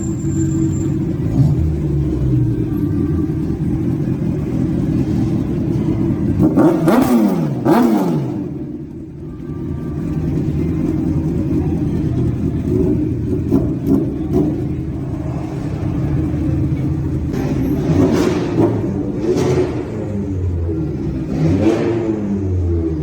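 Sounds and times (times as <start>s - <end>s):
car engine running and revving: 0.0s - 23.0s.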